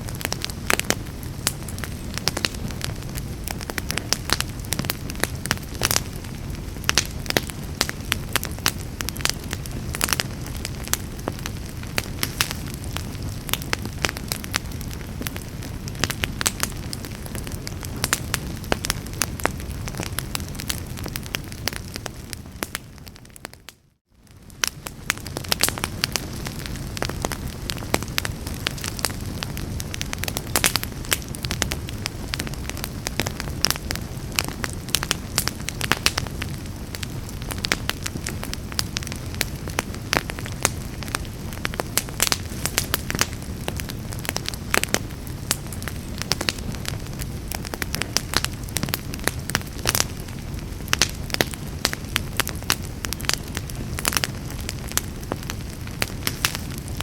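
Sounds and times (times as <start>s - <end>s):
fire crackling in fireplace: 0.0s - 57.0s.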